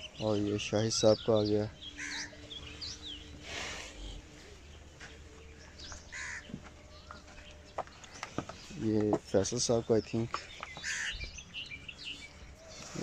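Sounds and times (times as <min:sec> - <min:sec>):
birds chirping: 0:00.0 - 0:13.0
harsh bird calls: 0:00.0 - 0:13.0.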